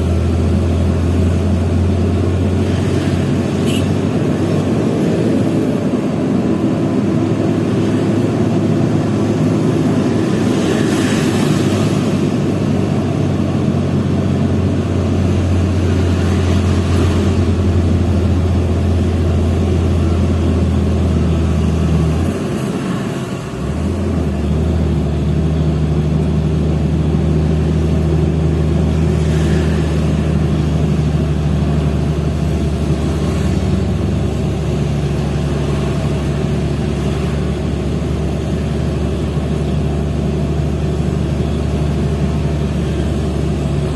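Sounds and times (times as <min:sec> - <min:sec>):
diesel truck engine under load: 0:00.0 - 0:43.9.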